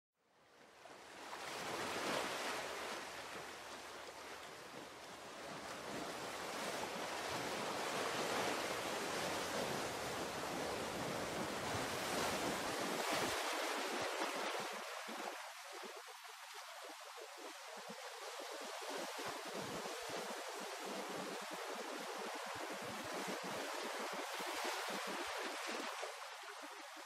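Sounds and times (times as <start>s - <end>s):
ocean surf: 0.8s - 27.0s.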